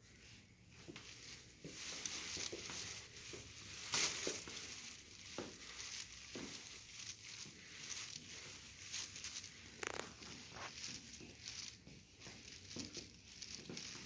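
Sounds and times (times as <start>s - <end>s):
soft footsteps: 0.0s - 14.0s.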